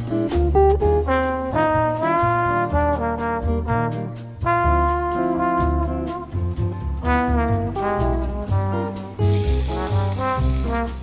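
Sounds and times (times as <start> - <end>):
jazzy background music: 0.0 - 11.0.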